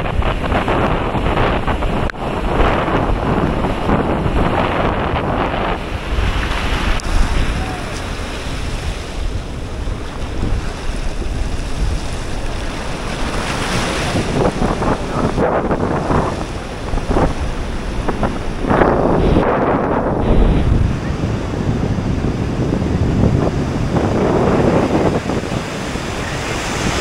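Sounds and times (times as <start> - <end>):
surf breaking on a beach: 0.0 - 27.0
wind buffeting the microphone: 0.0 - 27.0.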